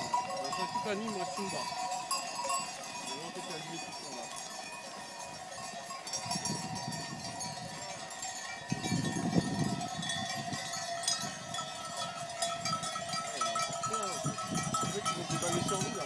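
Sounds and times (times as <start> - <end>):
sheep bells clanking: 0.0 - 16.0.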